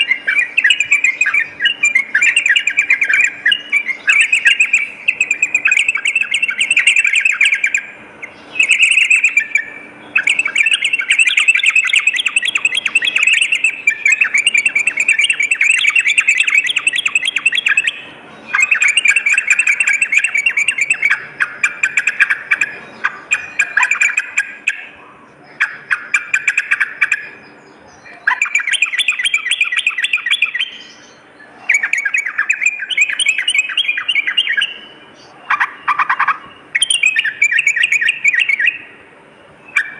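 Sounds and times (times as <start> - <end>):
birds singing bubbly chatter: 0.0 - 39.9
faint steady hum: 0.0 - 39.9.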